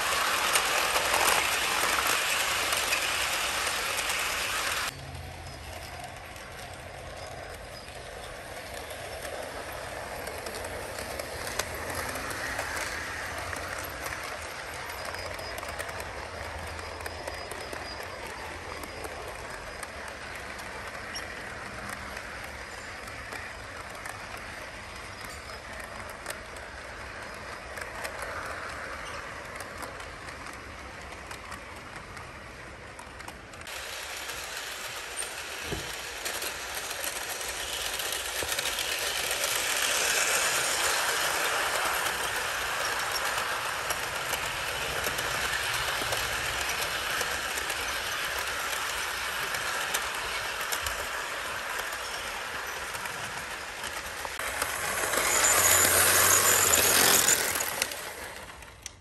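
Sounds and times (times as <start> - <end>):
model trains running on track: 0.0 - 59.0.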